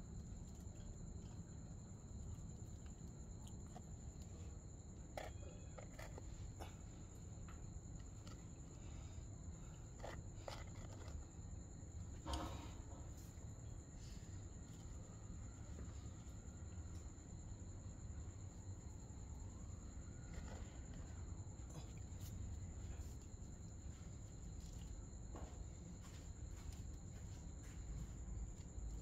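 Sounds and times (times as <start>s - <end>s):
cricket trilling: 0.0s - 29.0s.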